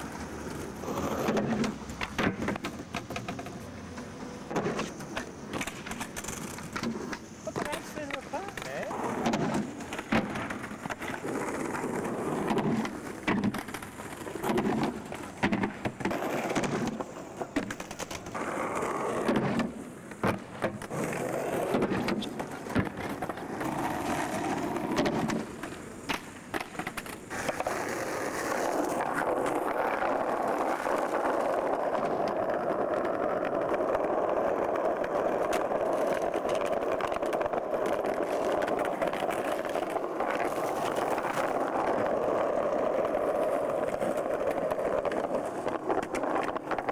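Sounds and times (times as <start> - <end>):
skateboard wheels rolling on paving: 0.0 - 46.9
skateboards clacking: 0.0 - 46.9.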